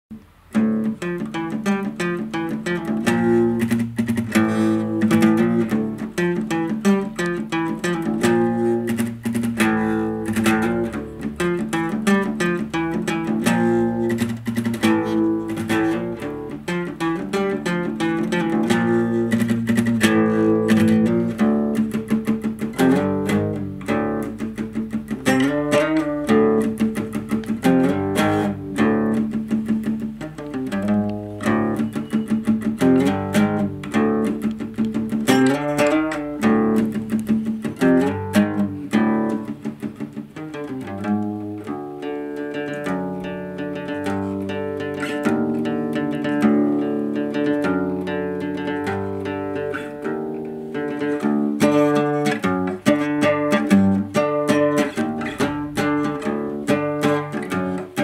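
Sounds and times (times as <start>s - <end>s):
fingerstyle classical guitar: 0.1s - 58.0s.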